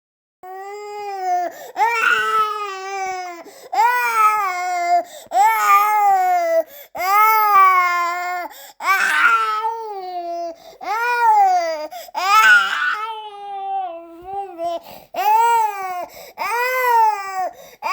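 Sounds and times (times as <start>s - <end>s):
newborn baby crying: 0.4s - 17.9s.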